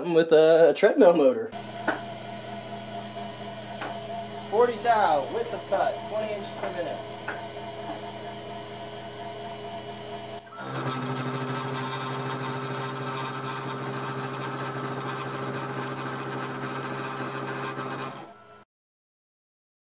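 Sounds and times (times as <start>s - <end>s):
end mill cutting metal: 1.5s - 18.6s
mill spindle humming: 1.5s - 18.6s.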